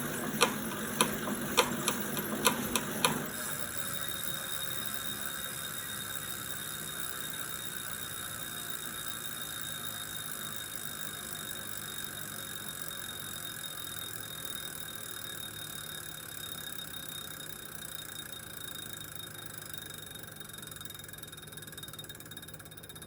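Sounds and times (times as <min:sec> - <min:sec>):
bike trainer whining: 0:00.0 - 0:23.0.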